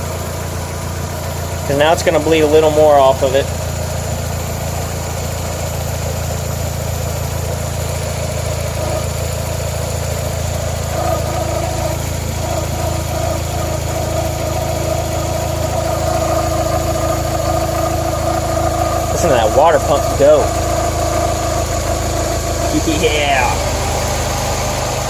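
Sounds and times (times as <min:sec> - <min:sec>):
car engine idling: 0:00.0 - 0:25.0
high whirring tone: 0:01.0 - 0:25.0.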